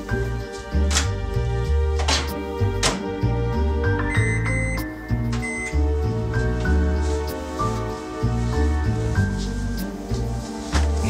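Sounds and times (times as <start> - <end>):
film score music: 0.0 - 11.0.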